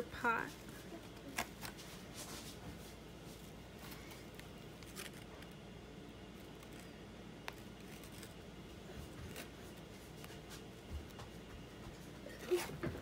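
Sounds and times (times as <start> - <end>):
plastic piping bag crinkling: 0.2 - 10.9.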